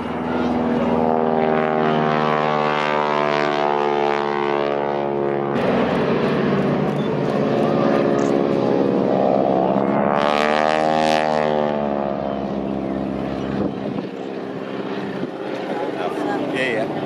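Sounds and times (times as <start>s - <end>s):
biplane engine droning: 0.0s - 17.0s.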